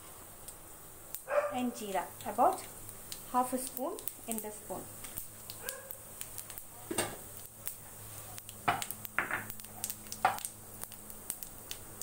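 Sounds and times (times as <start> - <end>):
seeds popping in hot oil: 0.3 - 12.0.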